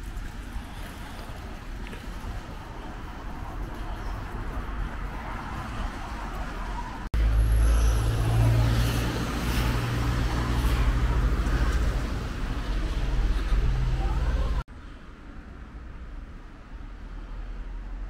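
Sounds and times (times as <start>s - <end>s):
quiet street ambience: 0.0s - 18.0s
cars driving past: 0.2s - 15.0s.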